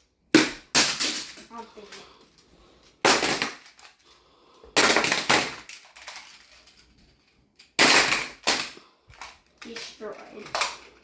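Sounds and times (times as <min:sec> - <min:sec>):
plastic tiles crashing and clattering: 0:00.0 - 0:11.0.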